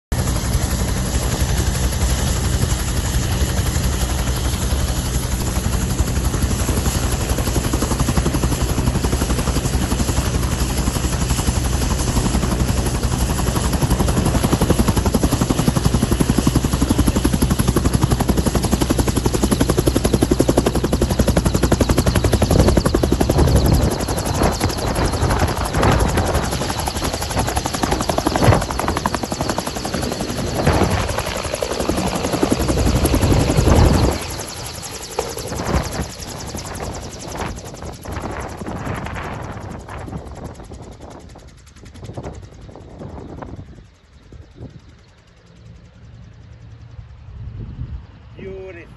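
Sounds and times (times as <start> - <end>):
helicopter rotor and turbine: 0.1 - 48.9.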